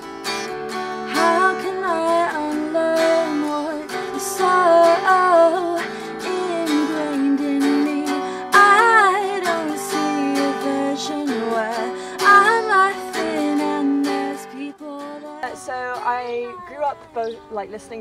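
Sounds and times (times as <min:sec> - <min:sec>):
electric guitar strumming: 0:00.0 - 0:18.0
woman singing: 0:01.1 - 0:18.0.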